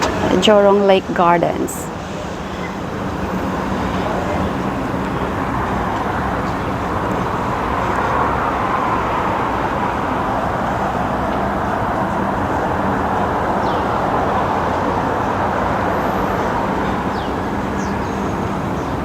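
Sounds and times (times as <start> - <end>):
vehicle noise with low hum: 0.0 - 19.0.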